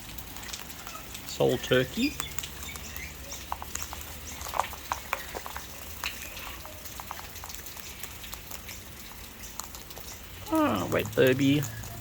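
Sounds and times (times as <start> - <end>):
rain hissing: 0.0 - 12.0
birds cracking seed: 0.2 - 12.0.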